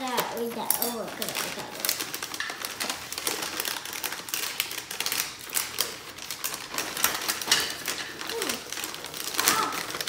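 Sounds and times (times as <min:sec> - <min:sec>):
wrapping paper crinkling: 0:00.0 - 0:10.0.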